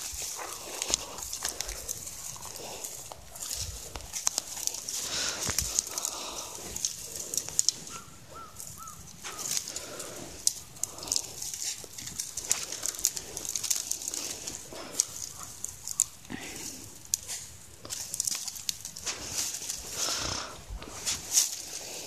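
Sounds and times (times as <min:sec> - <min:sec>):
dry grass rustling and crackling: 0:00.0 - 0:22.0
footsteps through brush: 0:00.0 - 0:22.0
stems snapping: 0:00.0 - 0:22.0.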